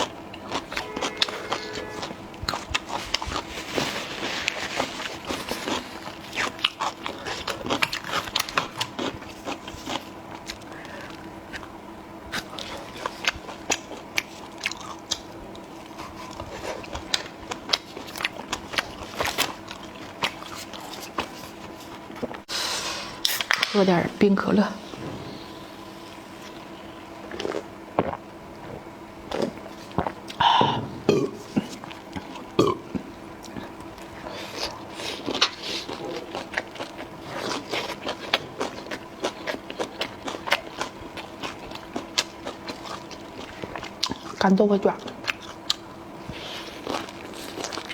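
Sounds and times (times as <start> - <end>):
person chewing and crunching food: 0.0 - 22.4, 26.1 - 47.9.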